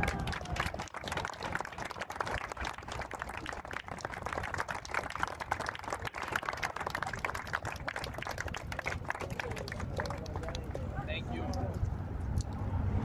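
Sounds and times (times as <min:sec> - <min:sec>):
people applauding: 0:00.0 - 0:11.8.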